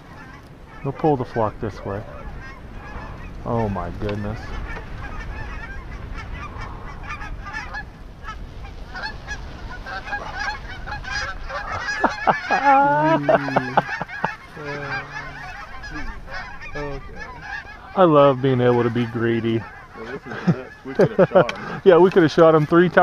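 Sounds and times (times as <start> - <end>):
geese honking: 0.0 - 23.0.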